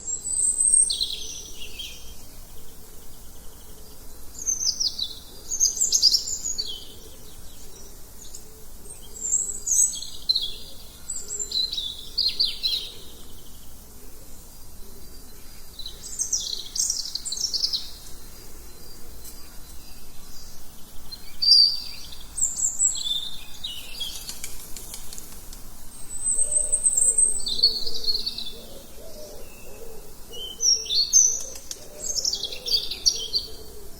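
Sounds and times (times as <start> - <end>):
faint steady hiss: 0.0 - 33.9
songbirds chirping and singing: 0.0 - 33.9.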